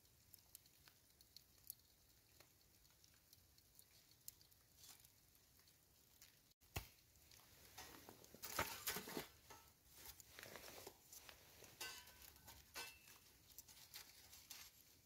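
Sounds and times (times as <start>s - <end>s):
wood crackling in camp stove: 0.0s - 15.0s.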